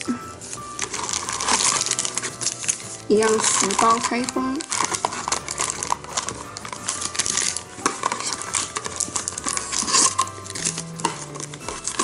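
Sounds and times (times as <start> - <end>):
foil packs crinkling and rustling: 0.0 - 12.0.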